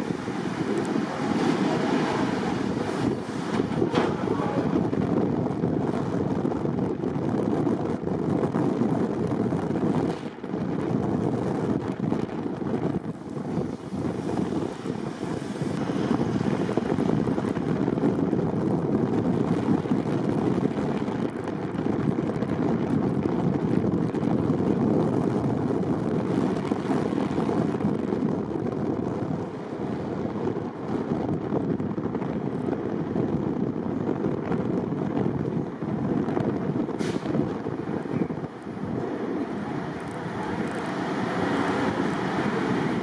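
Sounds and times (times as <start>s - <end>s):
car tyre and wind rumble: 0.0s - 43.0s.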